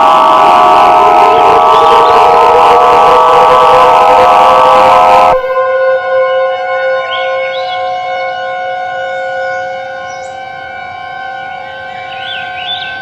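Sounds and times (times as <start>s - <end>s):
steady siren tone: 0.0s - 13.0s.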